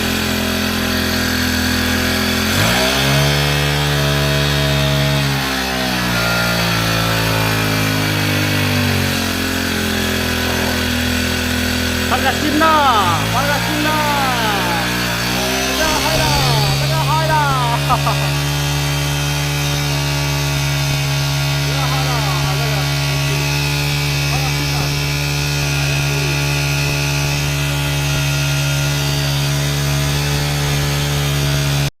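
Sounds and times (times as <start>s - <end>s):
lawn mower engine running: 0.0s - 31.9s.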